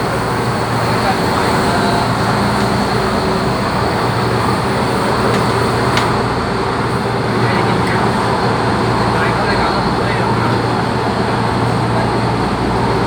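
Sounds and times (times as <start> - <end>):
train wheel and track noise: 0.0 - 13.0.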